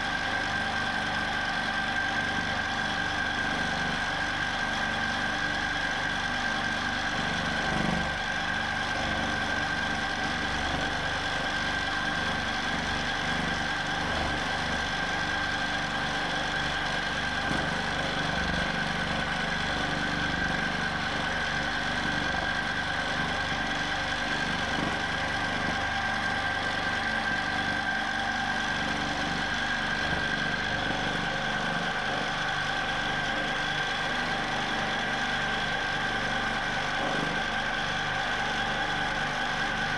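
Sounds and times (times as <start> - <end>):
quilting machine motor whine: 0.0 - 39.9.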